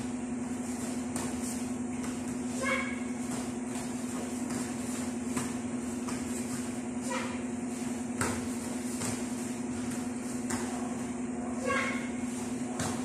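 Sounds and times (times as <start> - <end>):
bare feet thudding on foam mats: 0.0 - 13.0
steady hum: 0.0 - 13.0.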